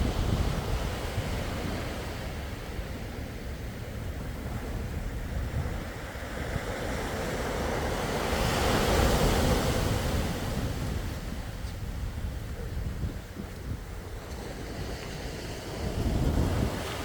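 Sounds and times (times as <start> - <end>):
sea waves breaking on shore: 0.0 - 17.0
wind rumbling on microphone: 0.0 - 17.0.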